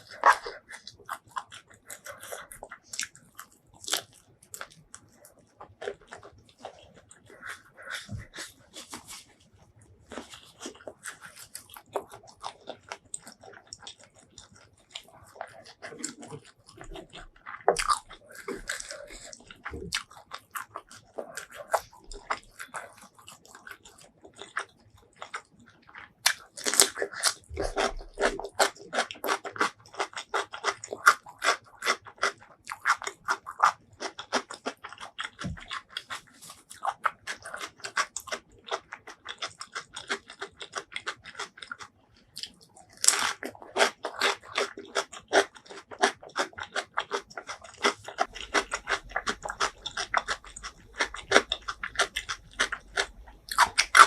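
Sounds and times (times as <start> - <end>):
crisp chewing crunches: 0.0 - 54.0.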